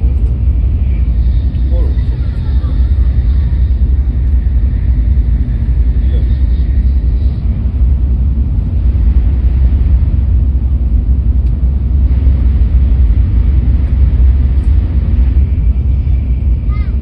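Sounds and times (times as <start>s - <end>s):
train cabin rumble: 0.0s - 17.0s.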